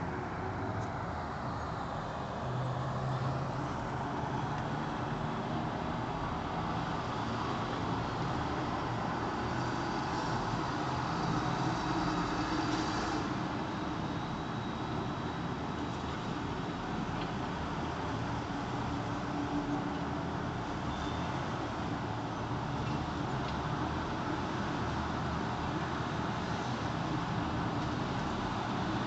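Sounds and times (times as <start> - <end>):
car engines: 0.0 - 29.0.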